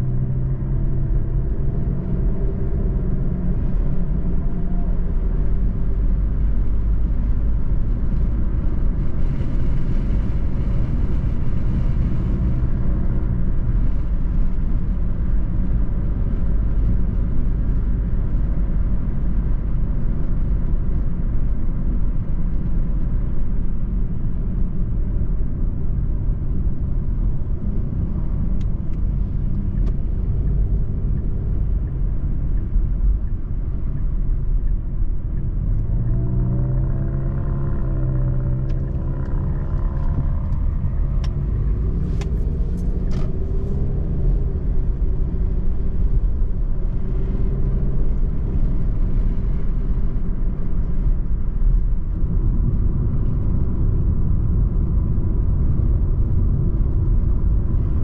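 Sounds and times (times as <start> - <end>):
car road rumble inside cabin: 0.0 - 58.0.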